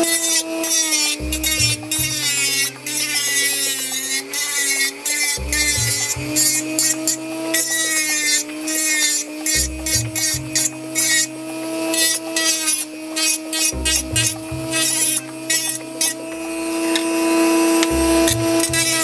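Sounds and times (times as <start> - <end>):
sanding drum rasping plastic: 0.0 - 17.2
rotary tool motor whine: 0.0 - 19.0.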